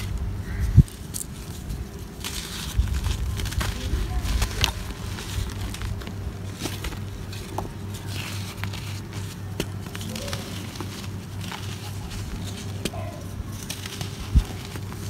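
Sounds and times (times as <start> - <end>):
dry material crackling and crunching: 0.0 - 15.0
grit trickling through fingers: 0.0 - 15.0
steady low hum: 0.0 - 15.0.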